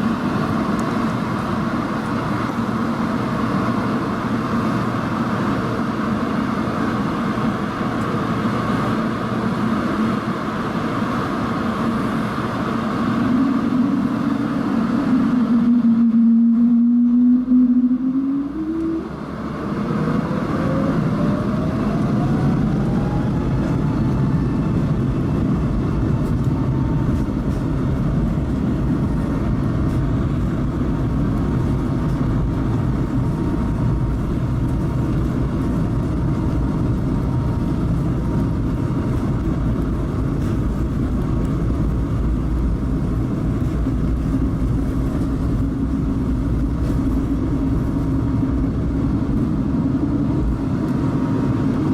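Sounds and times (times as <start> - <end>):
jet engines spooling up: 0.0 - 51.9
takeoff roll rumble: 0.0 - 51.9.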